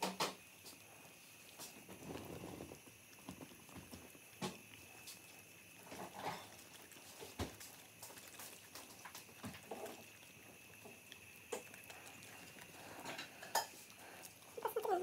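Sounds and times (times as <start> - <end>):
dog chewing fruit: 0.4 - 15.0.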